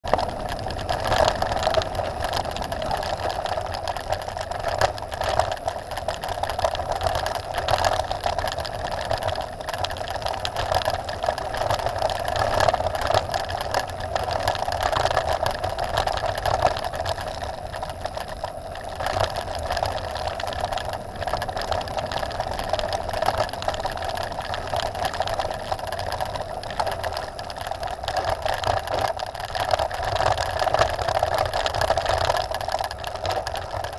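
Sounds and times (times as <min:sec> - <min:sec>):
bike rattling and knocking: 0:00.0 - 0:33.9.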